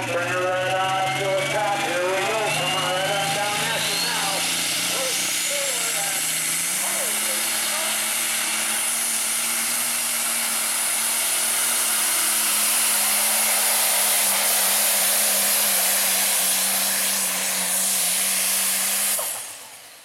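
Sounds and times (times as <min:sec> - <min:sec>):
truck diesel engine running hard: 0:00.0 - 0:20.0
high hissing whine: 0:01.5 - 0:20.0.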